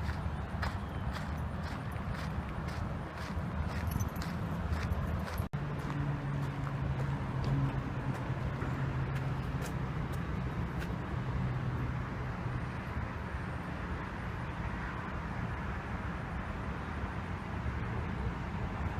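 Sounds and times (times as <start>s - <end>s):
road traffic rumble: 0.0s - 18.9s
vehicle engine hum: 0.0s - 18.9s.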